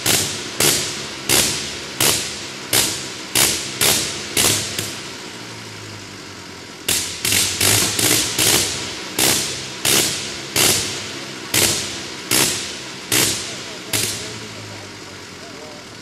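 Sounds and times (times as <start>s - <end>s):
rotary engine firing bangs: 0.0s - 5.4s, 6.8s - 14.9s.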